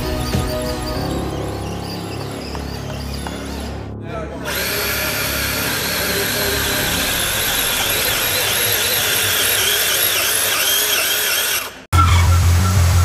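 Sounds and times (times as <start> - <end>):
electric motor whining: 0.0 - 12.8.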